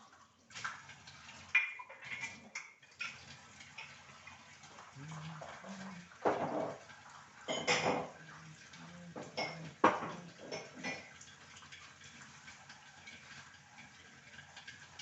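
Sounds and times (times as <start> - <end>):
metal pots clanking: 1.5 - 4.6, 5.2 - 15.0.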